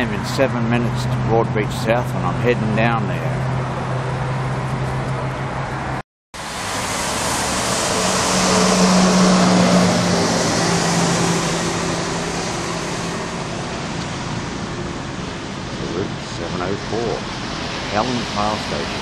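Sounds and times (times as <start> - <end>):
coach driving past: 0.0 - 19.0.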